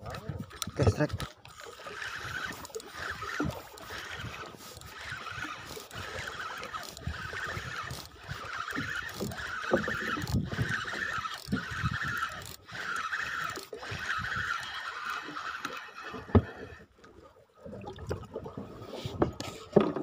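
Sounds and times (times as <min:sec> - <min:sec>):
fishing reel gears whirring: 0:00.0 - 0:17.0.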